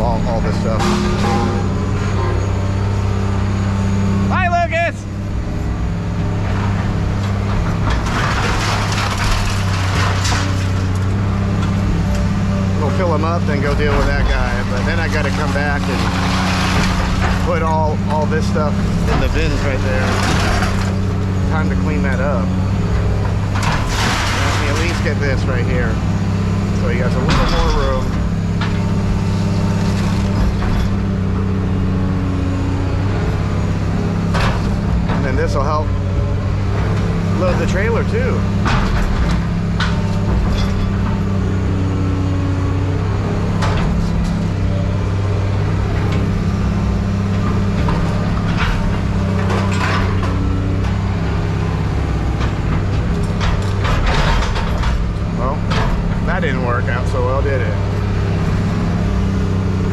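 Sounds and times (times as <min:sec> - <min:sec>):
scrap metal crunching and rattling: 0:00.0 - 0:03.6, 0:05.7 - 0:59.9
heavy machine engine running: 0:00.0 - 0:59.9.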